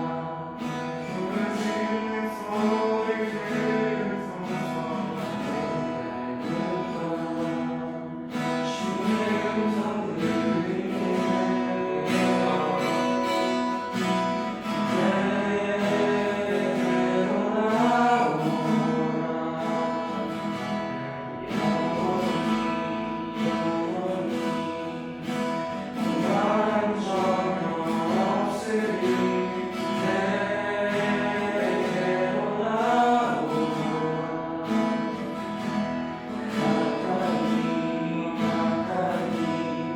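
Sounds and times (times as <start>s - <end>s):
acoustic guitar strumming: 0.0s - 39.9s
people singing: 0.0s - 39.9s.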